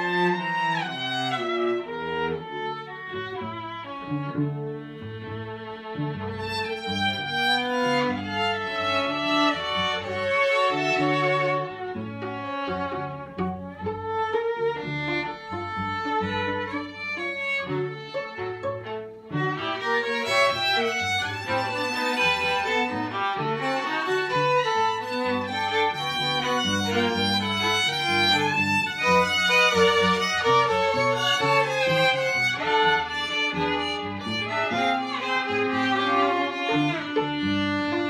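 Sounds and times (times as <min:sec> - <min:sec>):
cello low line: 0:00.0 - 0:38.0
violins playing: 0:00.0 - 0:38.0.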